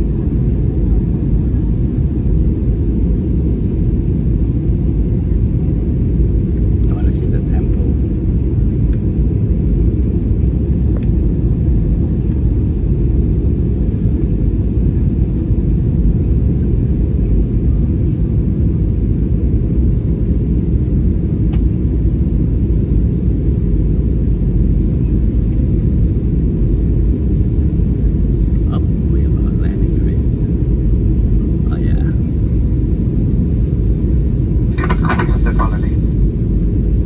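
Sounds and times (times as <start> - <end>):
airliner cabin rumble: 0.0 - 37.0.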